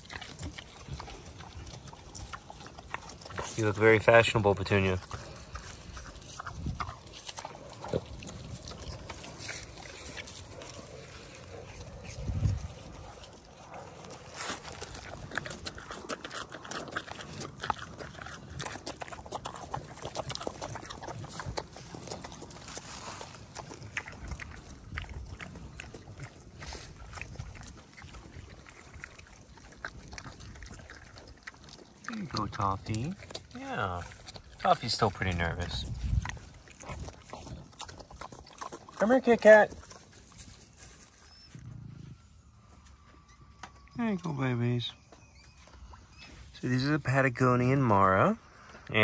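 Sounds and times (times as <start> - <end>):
pig grunts: 0.0 - 40.2
pigs crunching and snuffling: 0.0 - 49.0.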